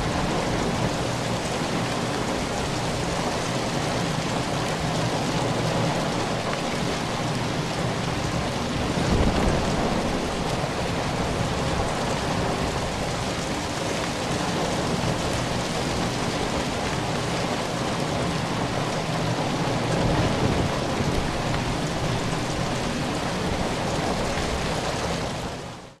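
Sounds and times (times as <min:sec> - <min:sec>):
heavy rain on a metal roof: 0:00.0 - 0:26.0.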